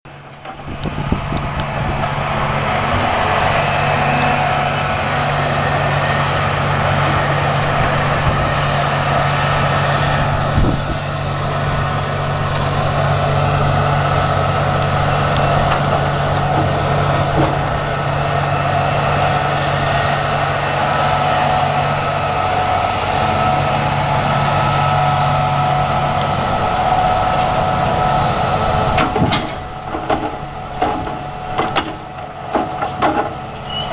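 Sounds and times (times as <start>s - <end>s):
heavy diesel engine under load: 0.1s - 33.9s.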